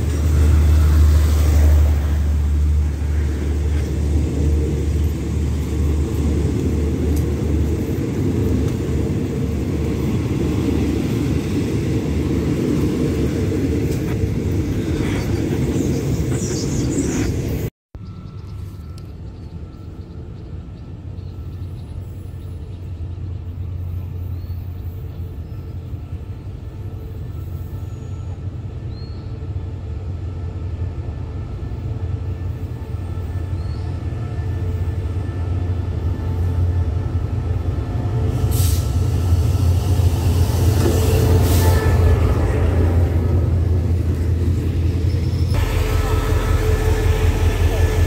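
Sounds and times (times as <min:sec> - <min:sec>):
train diesel engine rumble: 0:00.0 - 0:48.0.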